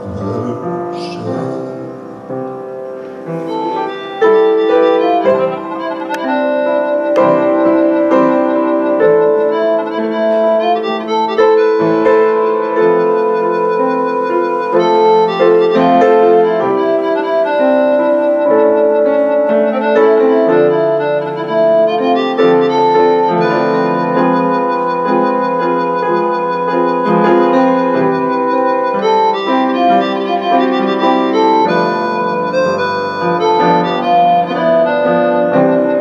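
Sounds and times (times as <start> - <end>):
piano chords: 0.0 - 36.0
violin-like melody: 0.0 - 36.0.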